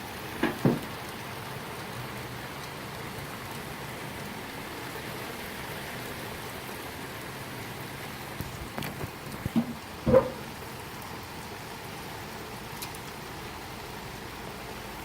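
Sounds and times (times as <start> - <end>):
heavy rain splashing: 0.0 - 15.0.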